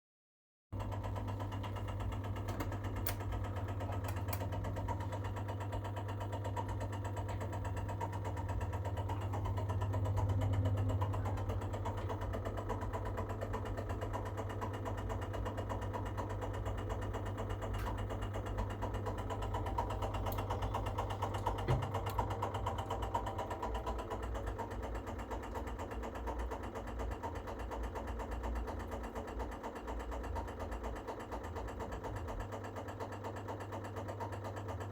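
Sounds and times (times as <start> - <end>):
boiler low hum: 0.8 - 32.9
boiler rapid knocking: 0.8 - 34.9.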